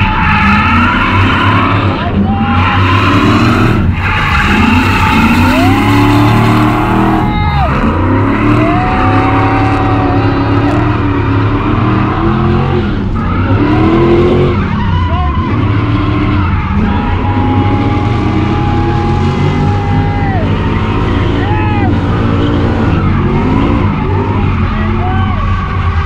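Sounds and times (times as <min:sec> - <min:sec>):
car engine at high revs: 0:00.0 - 0:26.0
tyres skidding: 0:00.0 - 0:26.0.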